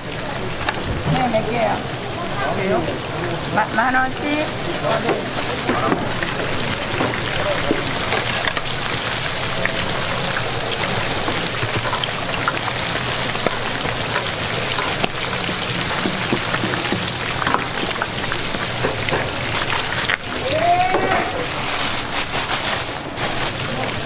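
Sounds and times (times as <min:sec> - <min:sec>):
deep-fryer oil sizzling: 0:00.0 - 0:24.0.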